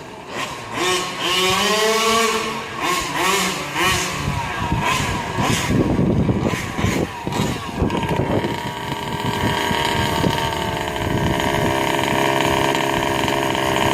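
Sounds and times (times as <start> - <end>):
small two-stroke engine revving: 0.0 - 13.9.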